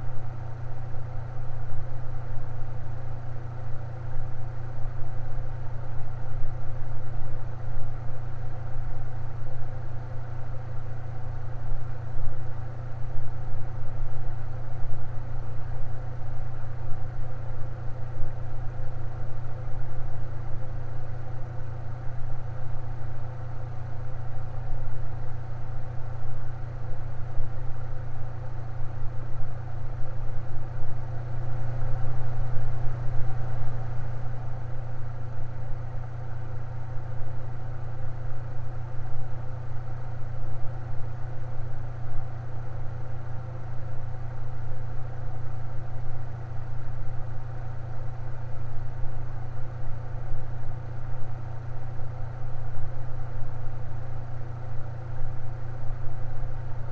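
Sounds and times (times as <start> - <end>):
electric fan humming: 11.0 - 56.9.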